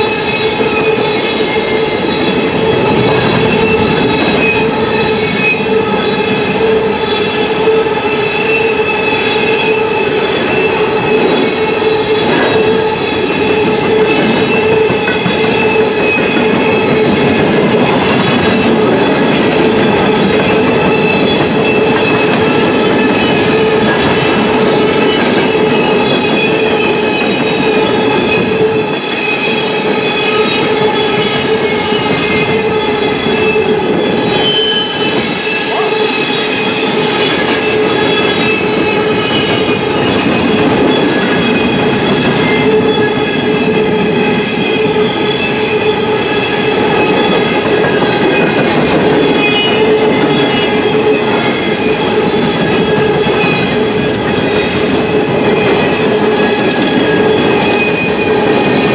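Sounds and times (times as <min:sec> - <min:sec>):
train wheels clattering over rails: 0:00.0 - 0:58.9
wheels squealing: 0:00.0 - 0:58.9.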